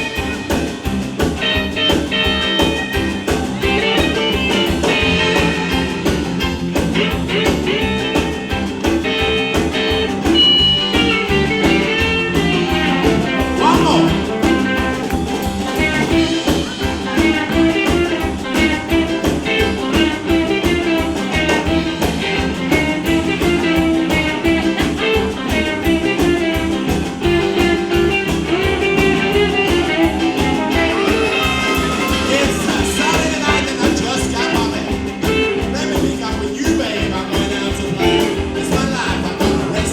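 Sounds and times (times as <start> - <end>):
rock and roll band playing: 0.0 - 39.9.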